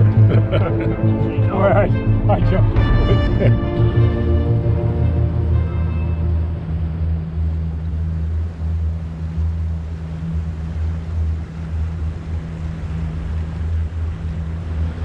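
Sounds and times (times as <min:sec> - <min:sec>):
outboard motor running: 0:00.0 - 0:15.0
water and wind rushing: 0:00.0 - 0:15.0.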